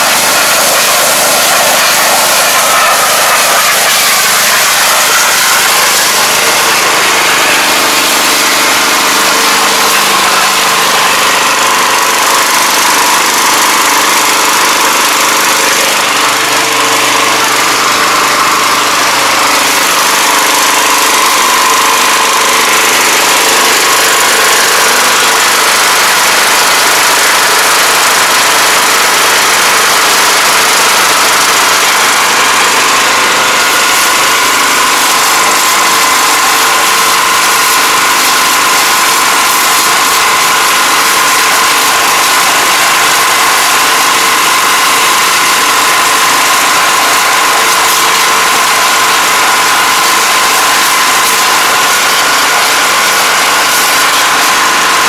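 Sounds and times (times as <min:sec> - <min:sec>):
high-pressure water jet hissing: 0:00.0 - 0:55.0
small petrol engine running: 0:00.0 - 0:55.0.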